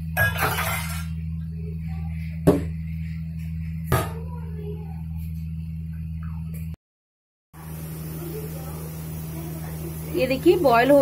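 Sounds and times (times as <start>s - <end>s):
steady low hum: 0.0s - 6.8s, 7.6s - 11.0s.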